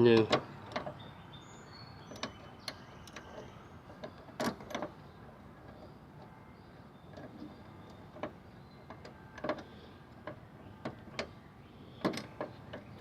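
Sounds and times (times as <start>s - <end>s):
light clicks of lock parts: 0.0s - 1.0s, 2.0s - 6.3s, 7.0s - 11.4s, 12.0s - 13.0s.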